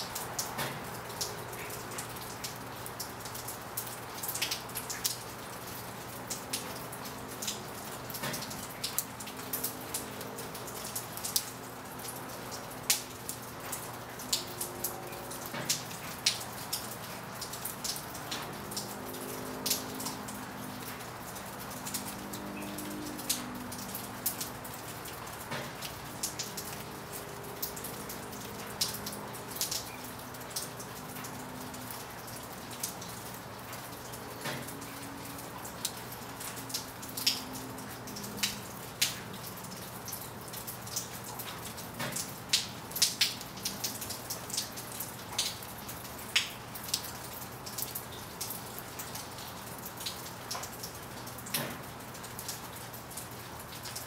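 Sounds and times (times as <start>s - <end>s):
rain falling: 0.0s - 54.0s
raindrops tapping: 0.0s - 54.0s.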